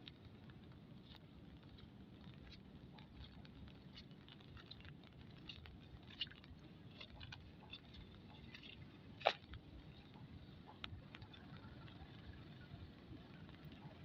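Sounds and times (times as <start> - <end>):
raindrops pattering: 0.0 - 14.0.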